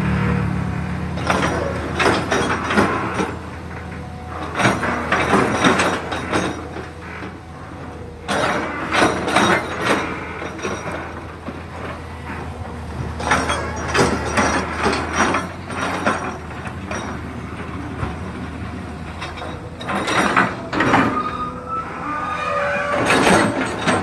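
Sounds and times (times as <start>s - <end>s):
boom and bucket clanking and creaking: 0.0s - 24.0s
excavator engine hum: 0.0s - 24.0s.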